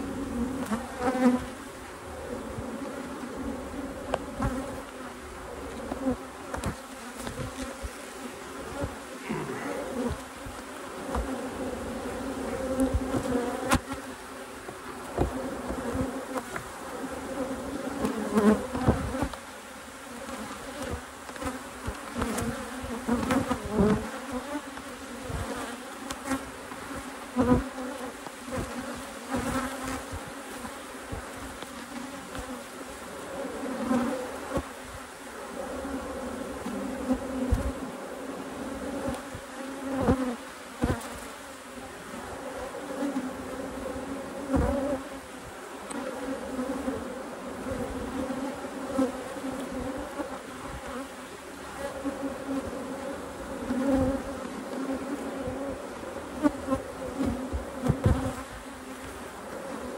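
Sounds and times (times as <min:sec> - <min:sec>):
honeybees buzzing: 0:00.0 - 0:59.9.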